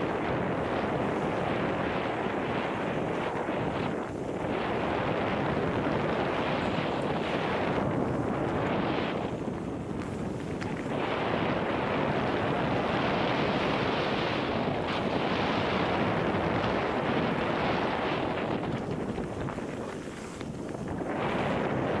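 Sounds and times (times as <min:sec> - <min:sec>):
bike tyre and trail noise: 0:00.0 - 0:22.0
wind rushing over microphone: 0:00.0 - 0:22.0.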